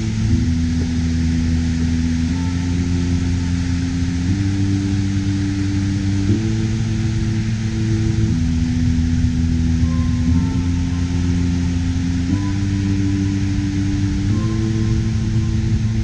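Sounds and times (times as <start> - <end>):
steady hiss: 0.0 - 16.0
sustained synthesizer chords: 0.0 - 16.0.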